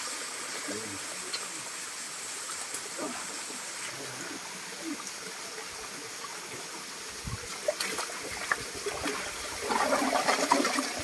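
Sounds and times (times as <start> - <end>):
stream water trickling: 0.0 - 11.0.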